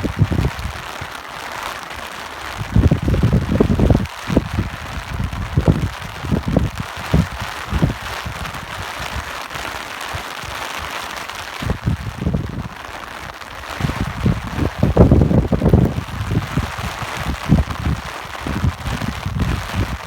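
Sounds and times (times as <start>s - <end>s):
wind buffeting microphone: 0.0s - 1.0s, 2.5s - 9.3s, 11.6s - 20.0s
rain hissing: 0.0s - 20.0s.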